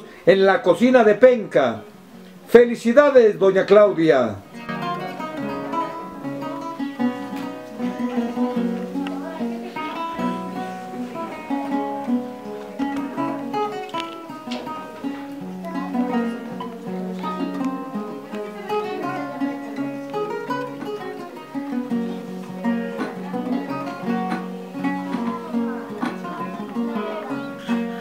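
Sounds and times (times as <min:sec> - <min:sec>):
acoustic guitar melody: 0:00.0 - 0:28.0.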